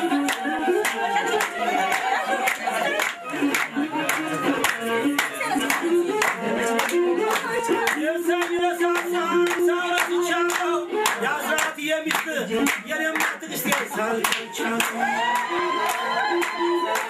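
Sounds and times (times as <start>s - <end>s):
group singing: 0.0s - 17.0s
rhythmic hand clapping: 0.0s - 17.0s.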